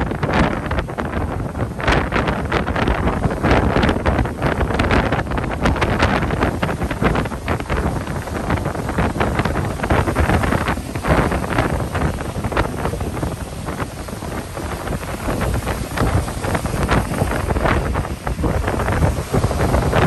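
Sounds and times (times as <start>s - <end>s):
strong wind hitting microphone: 0.0s - 20.0s.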